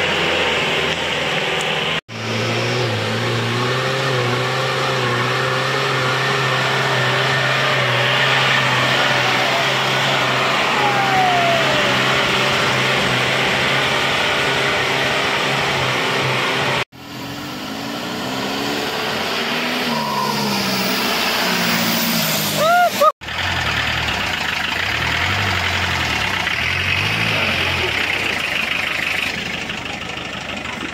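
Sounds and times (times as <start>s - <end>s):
vehicle engine running: 5.4s - 30.9s.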